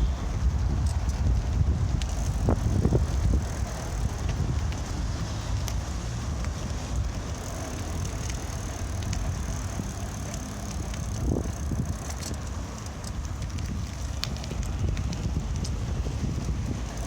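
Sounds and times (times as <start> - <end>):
bicycle tyres on road: 0.0 - 17.0
wind on microphone: 0.0 - 17.0
light clicks and rattles: 0.7 - 17.0.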